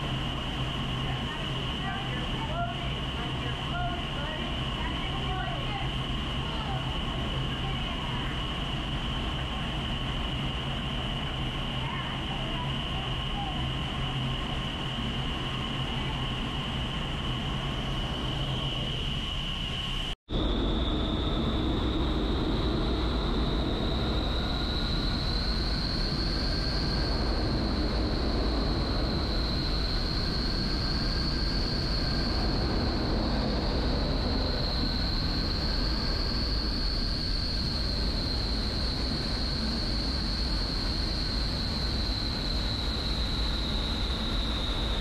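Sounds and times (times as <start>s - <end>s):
high whine: 0.0s - 45.0s
wind tunnel fans rushing air: 0.0s - 45.0s.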